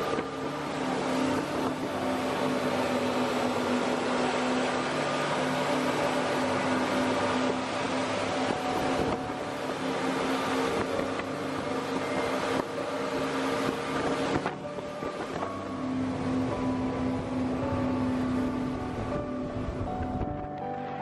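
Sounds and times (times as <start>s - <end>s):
wake and spray rushing: 0.0s - 19.9s
motorboat engine hum: 0.0s - 21.0s.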